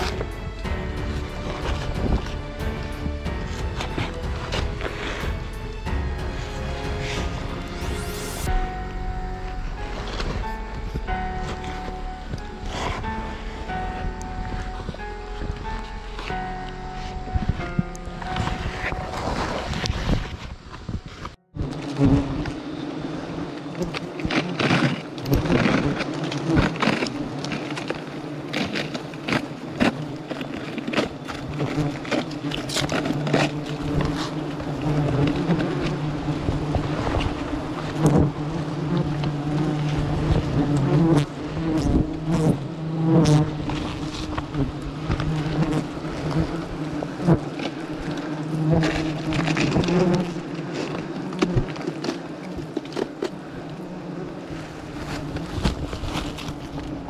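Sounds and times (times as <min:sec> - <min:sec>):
hornets buzzing: 0:00.0 - 0:20.4, 0:21.5 - 0:57.0.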